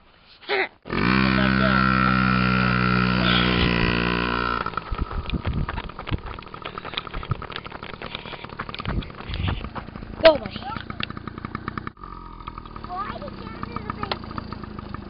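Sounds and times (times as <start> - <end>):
small two-stroke engine running: 0.9 - 15.0.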